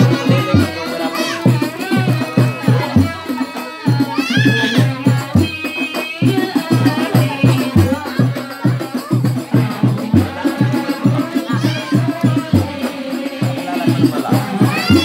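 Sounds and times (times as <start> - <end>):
frame drums beating: 0.0 - 15.0
people singing: 0.0 - 15.0.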